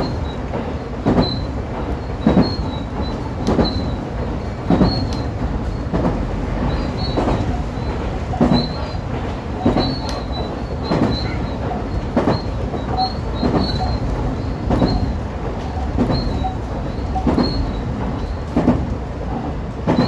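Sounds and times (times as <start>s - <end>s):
train low rumble: 0.0s - 20.0s
train wheels clacking over rail joints: 0.0s - 20.0s.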